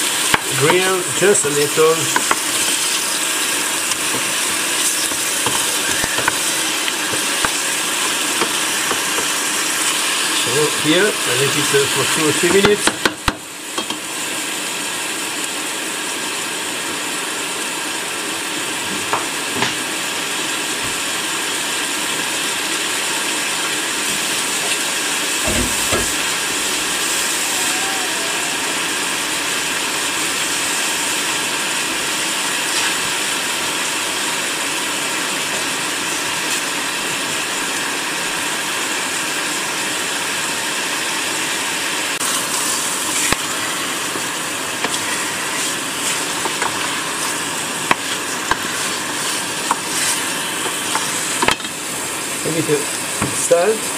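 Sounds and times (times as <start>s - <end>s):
meat sizzling in hot oil: 0.0s - 53.9s.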